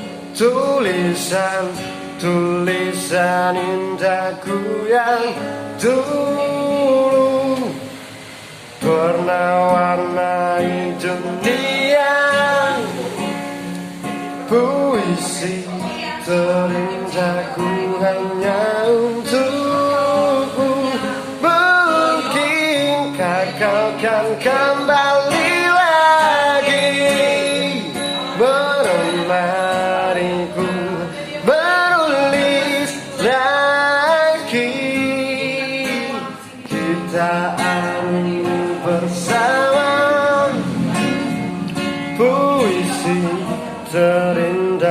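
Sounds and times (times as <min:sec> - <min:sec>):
acoustic guitar: 0:00.0 - 0:44.9
person singing: 0:00.0 - 0:44.9.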